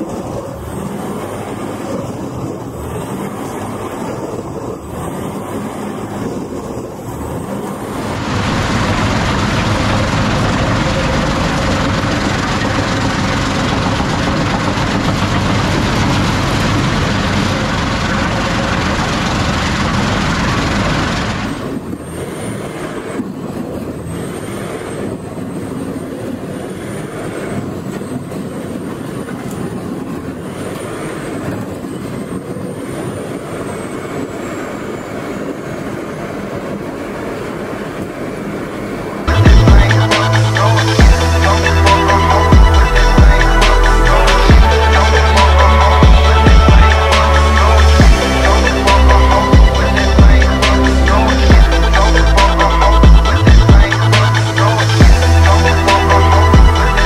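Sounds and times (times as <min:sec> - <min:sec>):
heavy machinery engine running: 0:00.0 - 0:57.0
loud grinding noise: 0:00.0 - 0:57.0.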